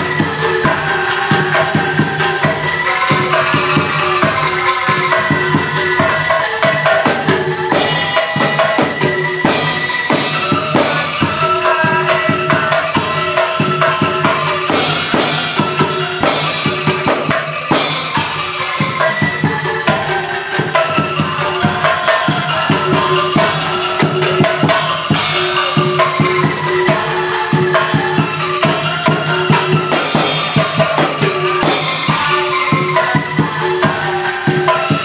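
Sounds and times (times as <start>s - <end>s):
bamboo angklung notes: 0.0s - 35.0s
drums and cymbals beat: 0.0s - 35.0s
people singing: 0.0s - 35.0s.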